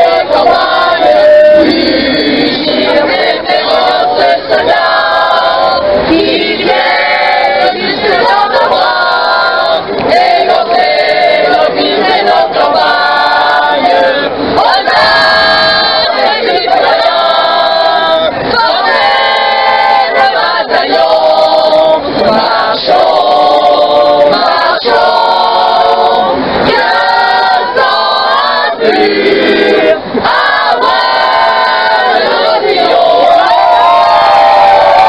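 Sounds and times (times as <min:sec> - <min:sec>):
crowd chanting in chorus: 0:00.0 - 0:35.0.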